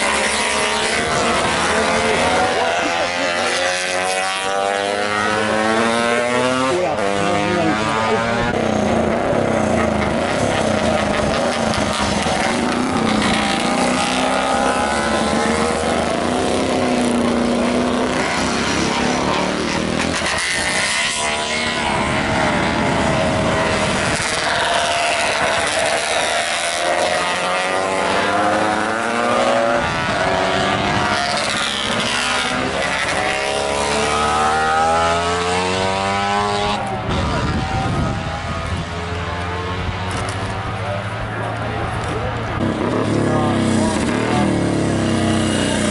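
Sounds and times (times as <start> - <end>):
motorcycles passing: 0.0 - 45.9.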